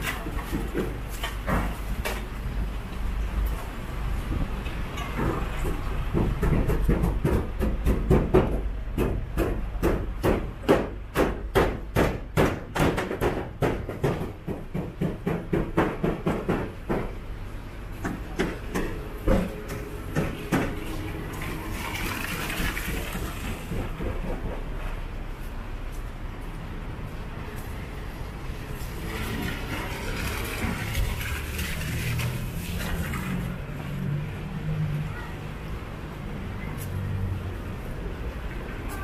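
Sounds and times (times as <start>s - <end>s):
street rumble: 0.0s - 39.0s.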